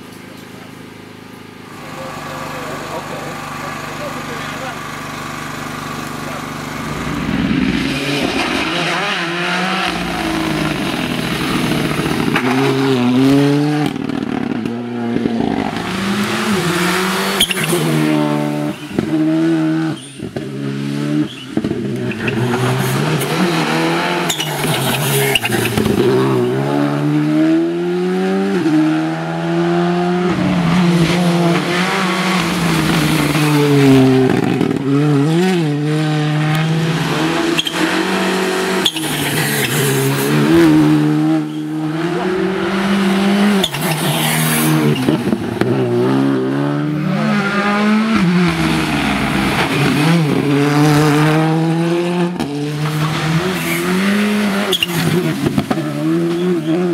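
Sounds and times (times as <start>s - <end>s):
rally car engines accelerating: 0.0s - 56.9s.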